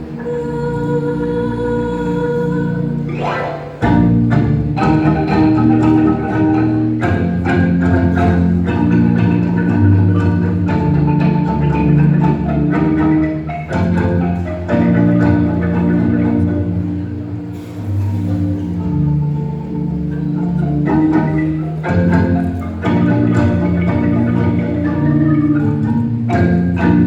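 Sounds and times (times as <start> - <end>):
wooden xylophone ensemble playing: 0.0 - 27.0.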